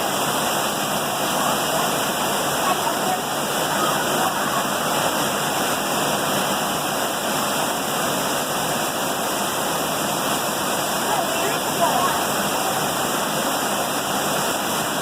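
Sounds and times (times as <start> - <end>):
heavy rain pouring: 0.0 - 15.0
runoff water rushing: 0.0 - 15.0.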